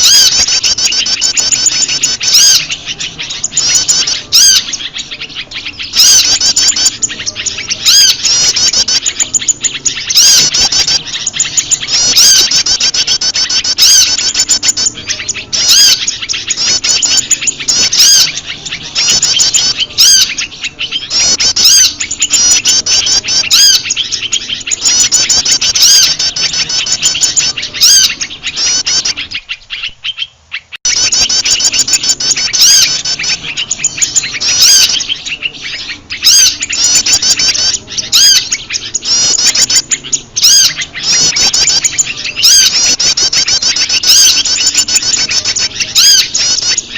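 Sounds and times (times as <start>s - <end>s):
high-pitched bird chirping: 0.0s - 46.9s.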